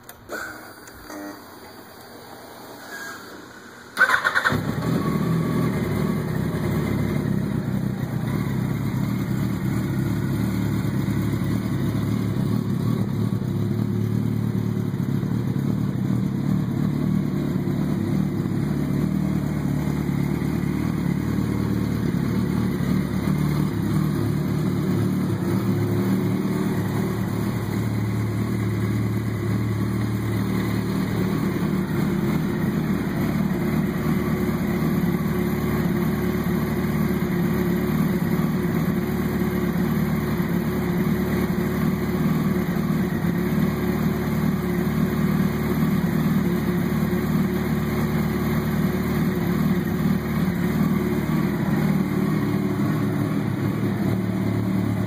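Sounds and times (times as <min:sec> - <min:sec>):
motorcycle engine starting and idling: 0:03.9 - 0:55.0.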